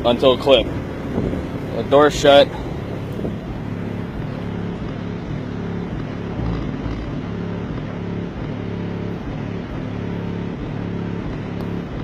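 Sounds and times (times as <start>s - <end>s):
bass-heavy music through subwoofers: 0.0s - 12.0s.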